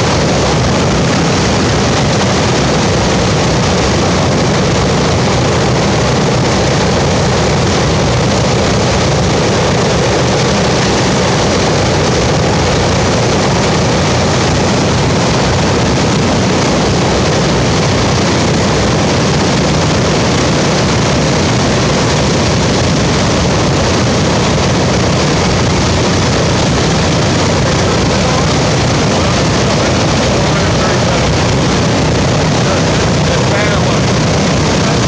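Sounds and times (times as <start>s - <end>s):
radial aircraft engines idling: 0.0s - 35.0s.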